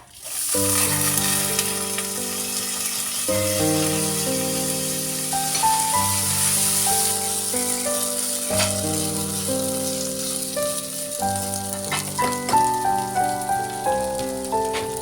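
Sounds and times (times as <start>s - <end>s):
food sizzling in a pan: 0.0s - 15.0s
slow held chords music: 0.6s - 15.0s.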